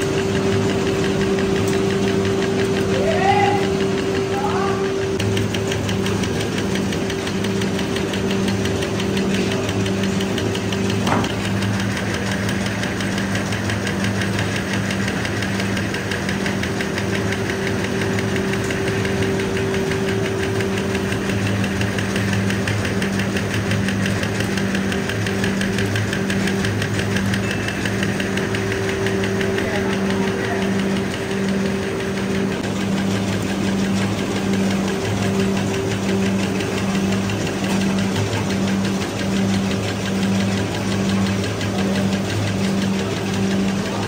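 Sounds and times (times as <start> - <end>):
low motor hum: 0.0 - 44.0
rapid even clicking: 0.0 - 44.0.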